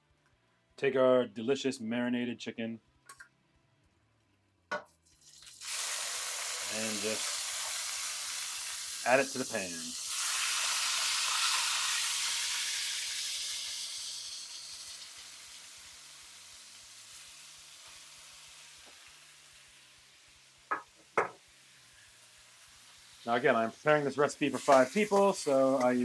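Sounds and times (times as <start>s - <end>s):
chicken sizzling in hot oil: 5.0s - 26.0s.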